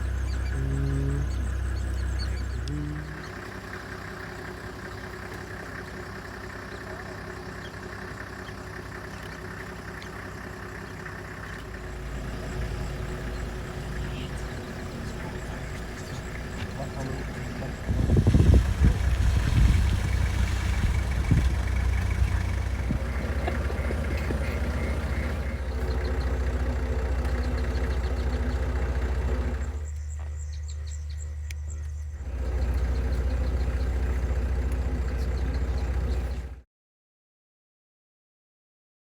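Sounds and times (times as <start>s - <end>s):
engine humming steadily: 0.0s - 36.6s.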